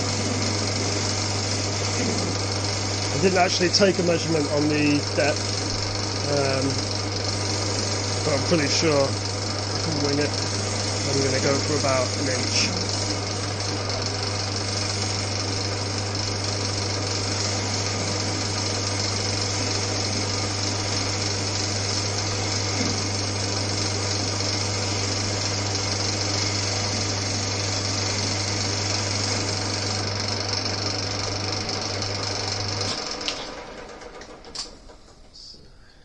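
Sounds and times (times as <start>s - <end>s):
metal lathe running: 0.0s - 35.2s.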